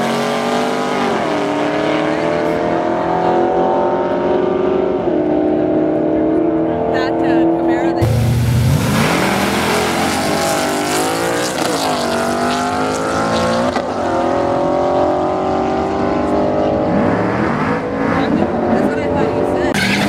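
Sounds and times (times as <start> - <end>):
drag car engines revving: 0.0 - 20.0.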